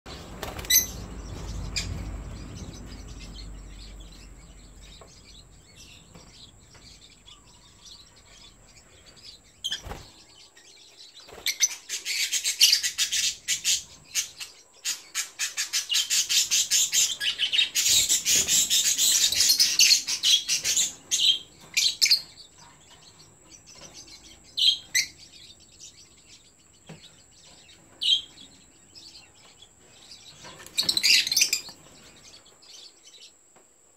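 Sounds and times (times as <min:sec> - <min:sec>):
lovebirds chirping and chattering: 0:00.1 - 0:33.6.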